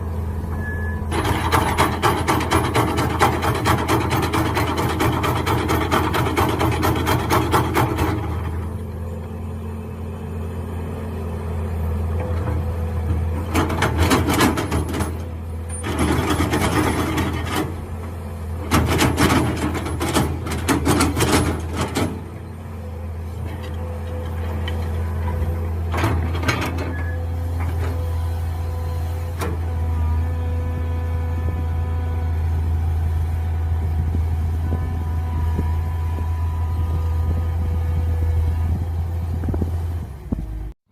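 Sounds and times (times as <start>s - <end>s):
excavator engine running: 0.0s - 40.8s.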